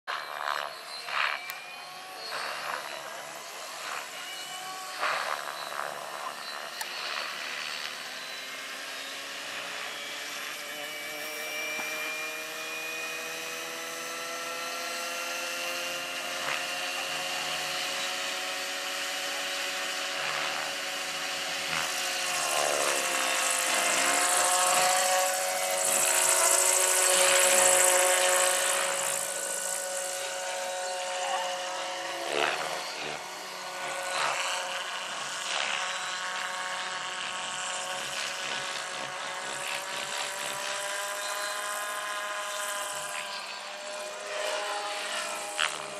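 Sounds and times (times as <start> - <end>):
model helicopter motor and rotor: 0.1 - 45.9.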